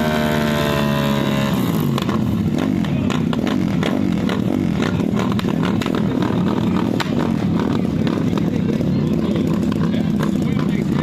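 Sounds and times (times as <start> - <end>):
motorcycle engine at high revs: 0.0 - 11.0
engine cracks and pops: 1.9 - 11.0.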